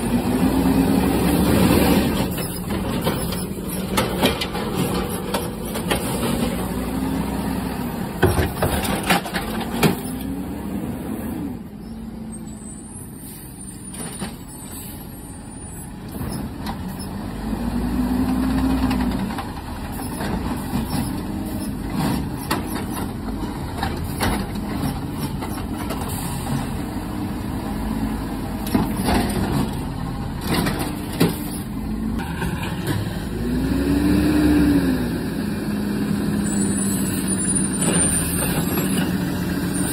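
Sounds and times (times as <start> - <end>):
garbage truck engine revving: 0.0 - 11.6, 17.2 - 39.9.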